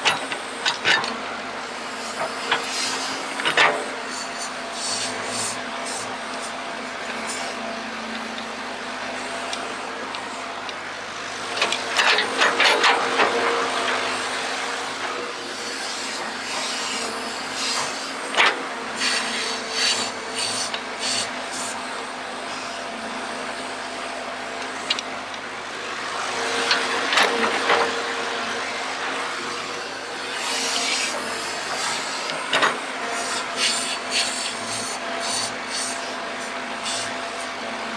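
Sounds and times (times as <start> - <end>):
excavator motor hum: 0.0 - 37.9.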